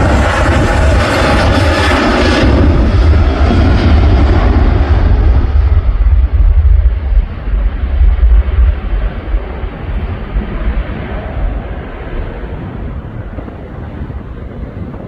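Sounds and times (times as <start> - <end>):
jet engines at takeoff power: 0.0 - 15.0.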